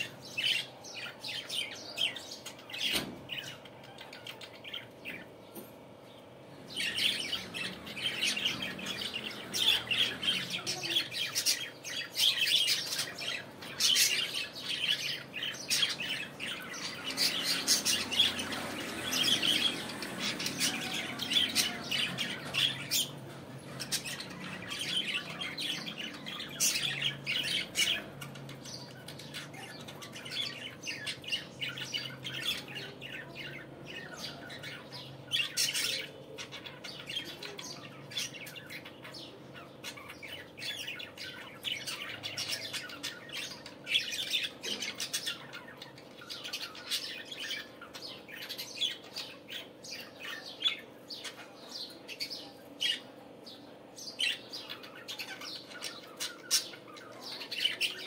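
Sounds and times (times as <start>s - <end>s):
budgerigars chirping and squawking: 0.0s - 58.0s.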